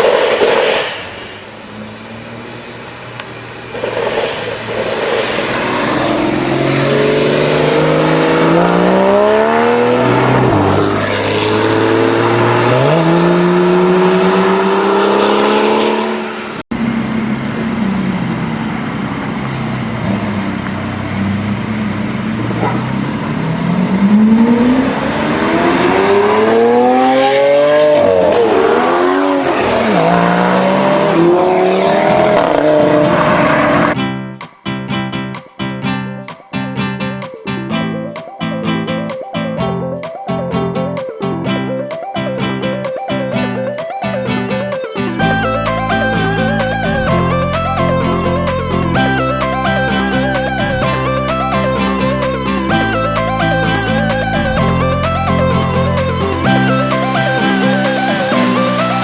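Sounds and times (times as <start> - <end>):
car engine accelerating hard: 0.1 - 34.0, 45.2 - 59.0.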